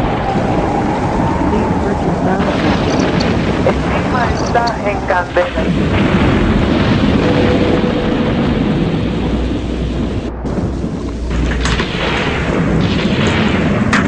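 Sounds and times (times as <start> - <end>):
dense steady rain: 0.0 - 14.0
low thunder: 0.0 - 14.0.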